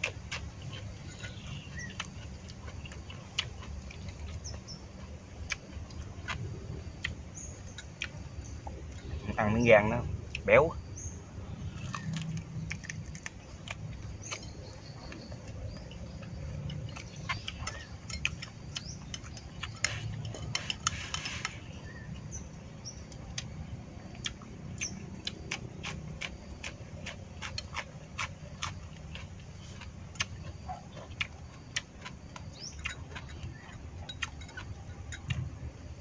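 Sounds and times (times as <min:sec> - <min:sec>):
person chewing with wet smacks: 0:00.0 - 0:09.2, 0:11.6 - 0:22.4, 0:23.1 - 0:36.0
low steady background hum: 0:00.0 - 0:36.0.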